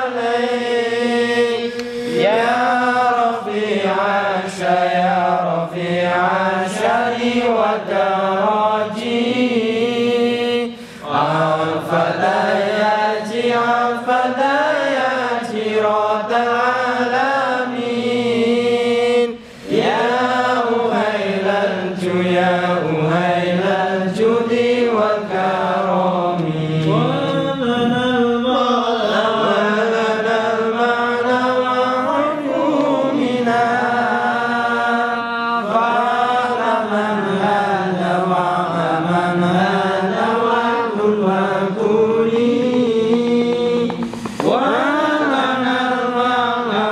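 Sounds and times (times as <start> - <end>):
men chanting together: 0.0 - 46.9.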